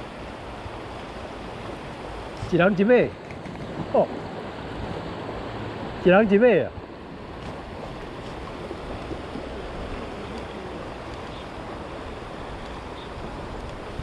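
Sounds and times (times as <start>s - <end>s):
creek rapids rushing: 0.0s - 14.0s.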